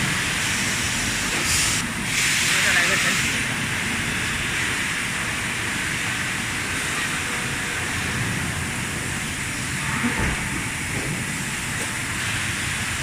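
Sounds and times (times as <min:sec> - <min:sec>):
industrial machinery hiss: 0:00.0 - 0:13.0.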